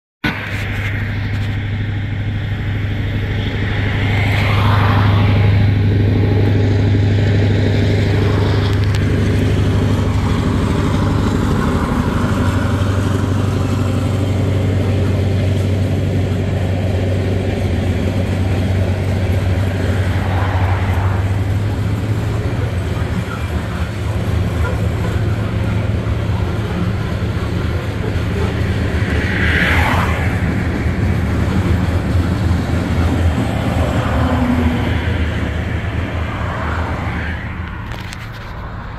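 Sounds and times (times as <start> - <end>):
diesel locomotive engine drone: 0.2 - 38.9
road vehicles passing: 0.2 - 38.9.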